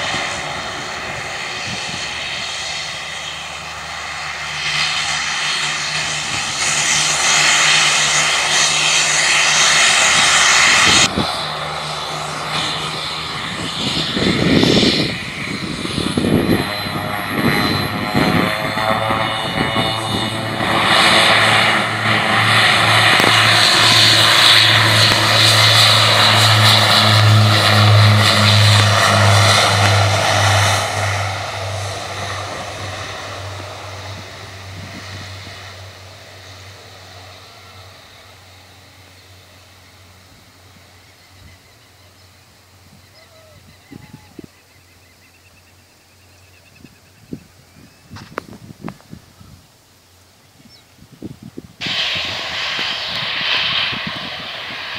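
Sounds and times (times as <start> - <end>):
turboprop airliner engines droning: 0.0 - 54.9.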